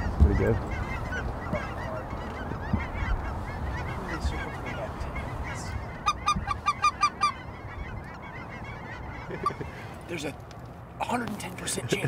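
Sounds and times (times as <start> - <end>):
geese cackling: 0.0 - 10.3
steady low rumble: 0.0 - 12.0.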